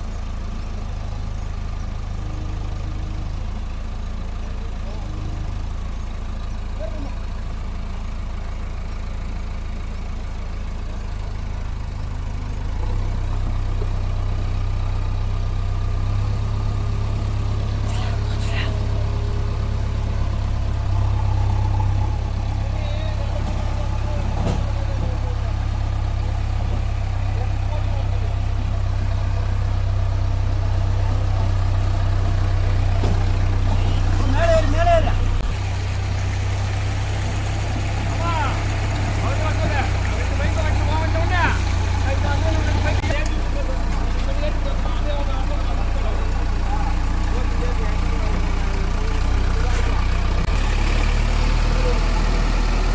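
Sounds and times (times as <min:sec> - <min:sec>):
diesel engine running at low revs: 0:00.0 - 0:52.9.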